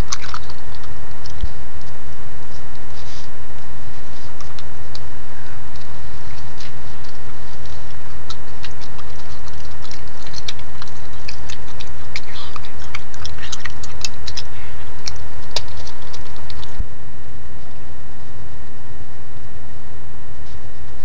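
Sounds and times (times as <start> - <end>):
raccoon clicks and scratches: 0.0 - 16.8
faint high whine: 0.0 - 21.0
steady electrical hum: 0.0 - 21.0.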